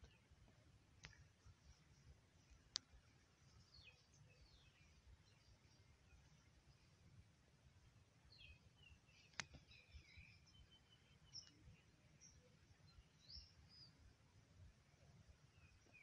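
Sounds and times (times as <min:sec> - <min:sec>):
faint bird chirps: 0:01.0 - 0:07.2, 0:08.2 - 0:16.0.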